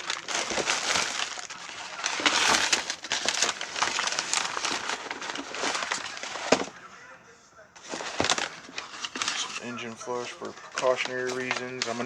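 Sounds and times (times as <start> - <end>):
packaging crinkling: 0.0 - 6.8, 7.8 - 12.0.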